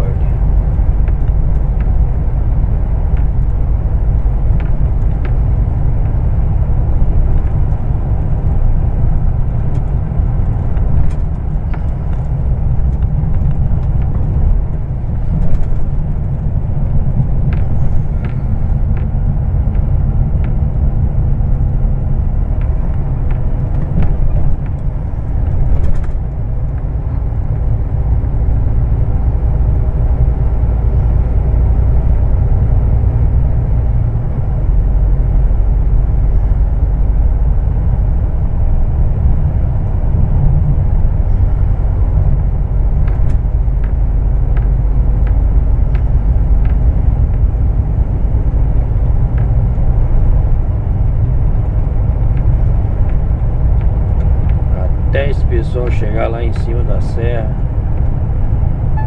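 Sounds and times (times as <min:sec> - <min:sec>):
diesel truck engine and tyre rumble: 0:00.0 - 0:59.0.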